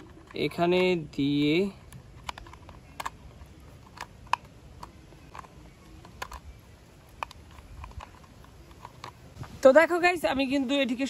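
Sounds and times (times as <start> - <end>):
plastic toy parts clicking: 0.0 - 9.4.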